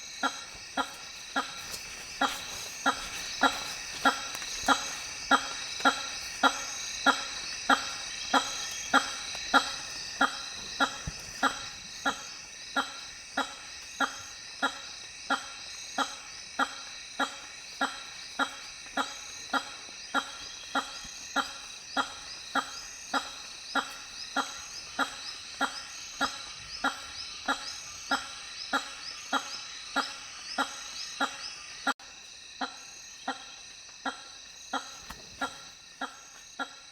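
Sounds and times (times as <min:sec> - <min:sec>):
high-pitched hum of night sounds: 0:00.0 - 0:36.9.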